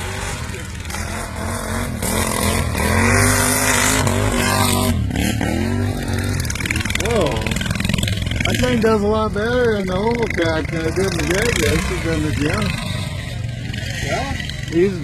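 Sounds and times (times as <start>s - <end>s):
lawn mower engines revving: 0.0s - 15.0s.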